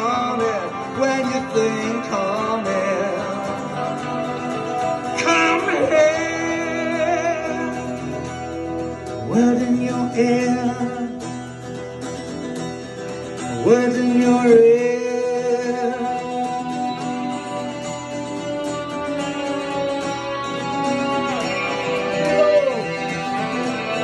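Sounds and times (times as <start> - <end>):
acoustic and electric guitar: 0.0 - 24.0.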